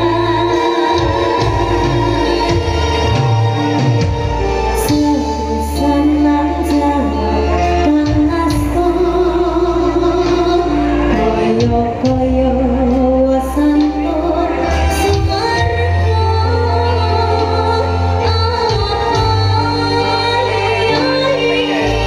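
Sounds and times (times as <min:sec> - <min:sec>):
woman singing through pa: 0:00.0 - 0:04.0, 0:04.8 - 0:22.0
live band with bass and percussion: 0:00.0 - 0:22.0.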